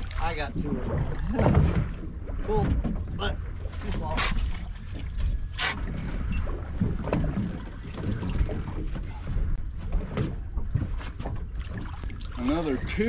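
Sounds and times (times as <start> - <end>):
low rumble of water: 0.0 - 13.0
wind buffeting microphone: 0.0 - 13.0.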